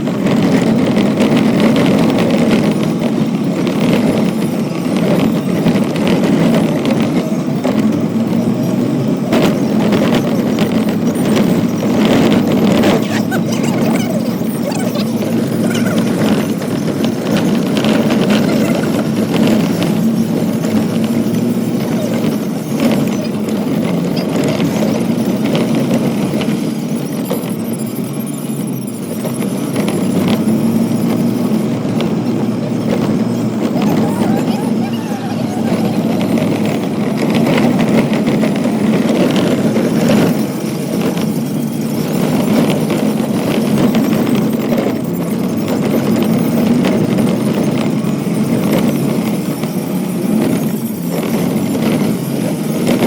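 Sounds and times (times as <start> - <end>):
light rattles and clicks: 0.0 - 53.0
vehicle engine running: 0.0 - 53.0.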